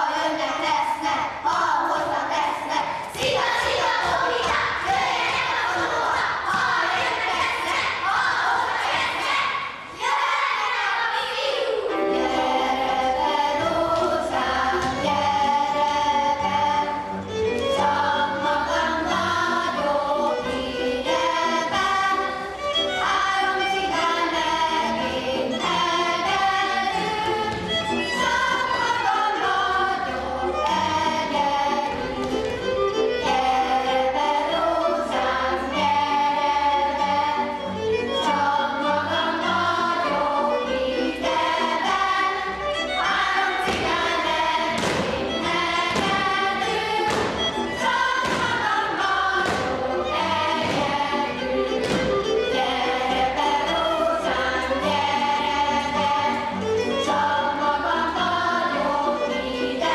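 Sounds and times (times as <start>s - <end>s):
group of people singing: 0.0s - 59.9s.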